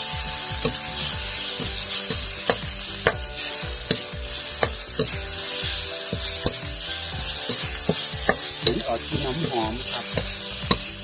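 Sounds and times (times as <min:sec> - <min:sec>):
garlic sizzling in hot oil: 0:00.0 - 0:11.0
spatula knocking against wok: 0:00.6 - 0:03.2, 0:03.8 - 0:05.2, 0:05.8 - 0:11.0.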